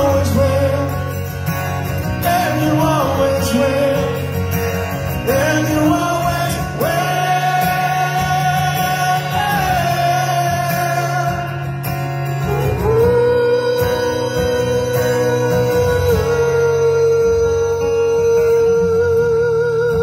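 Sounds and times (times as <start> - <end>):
man singing long notes: 0.0 - 1.2, 2.2 - 20.0
live rock ballad: 0.0 - 20.0.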